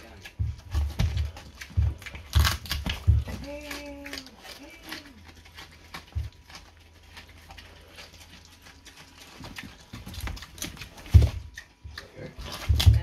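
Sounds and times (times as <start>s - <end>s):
pig chewing pumpkin: 0.0s - 13.0s.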